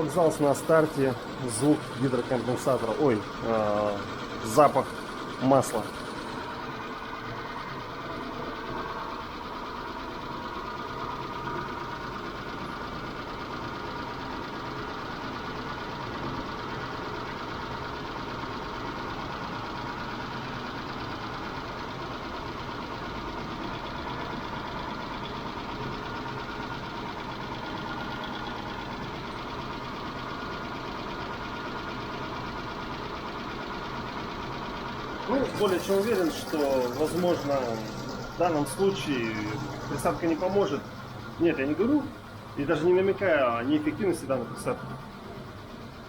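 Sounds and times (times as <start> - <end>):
car engine running: 0.0 - 46.0
fast light engine ticking: 0.0 - 46.0.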